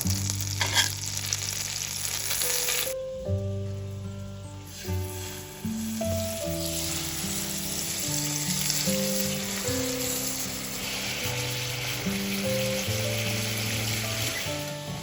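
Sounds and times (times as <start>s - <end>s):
food sizzling in a pan: 0.0s - 3.0s, 3.7s - 15.0s
background music: 0.0s - 15.0s.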